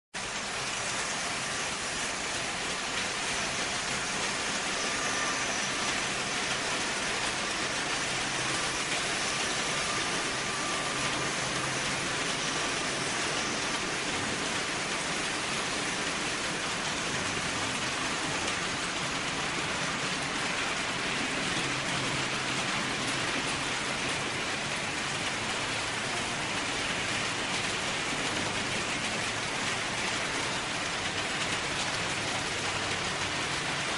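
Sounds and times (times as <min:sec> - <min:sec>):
model train wheels rattling on track: 0:00.6 - 0:33.9.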